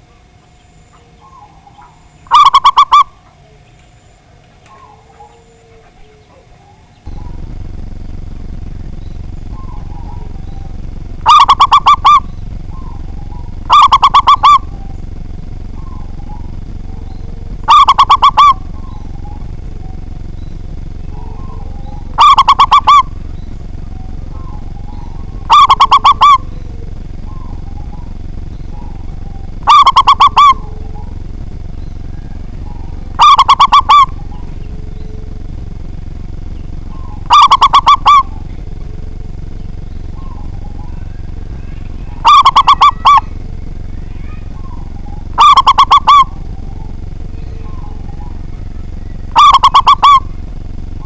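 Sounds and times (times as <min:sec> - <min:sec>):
dove cooing: 0:00.0 - 0:51.0.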